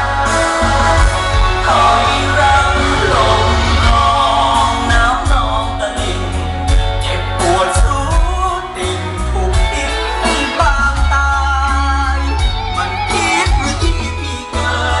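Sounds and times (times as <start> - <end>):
heavy pulsing bass: 0.0 - 15.0
loud music with singing: 0.0 - 15.0
steady drum beat: 0.0 - 15.0.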